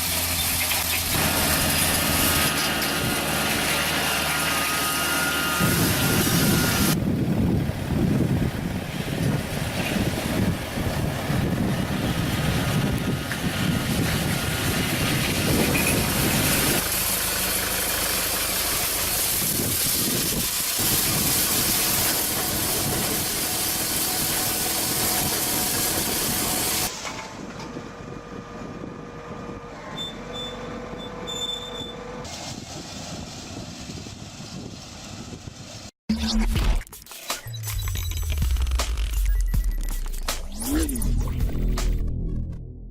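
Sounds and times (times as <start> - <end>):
rough farm machinery engine: 0.0 - 35.9.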